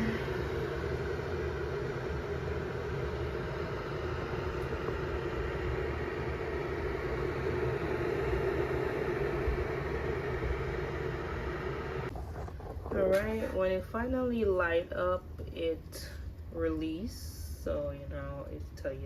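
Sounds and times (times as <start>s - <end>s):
electric kettle heating water: 0.0s - 19.0s.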